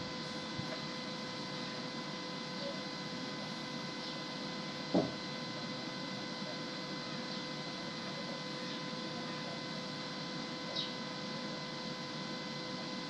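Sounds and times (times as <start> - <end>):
background hum and hiss: 0.0 - 13.0
thin constant whine: 0.0 - 13.0.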